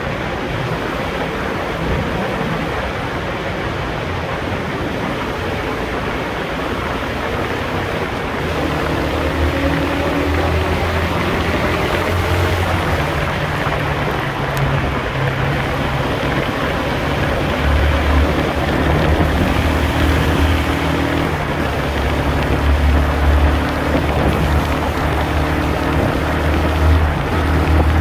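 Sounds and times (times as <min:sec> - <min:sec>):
wind and tyre noise in tunnel: 0:00.0 - 0:28.0
motorcycle engine cruising: 0:02.0 - 0:28.0.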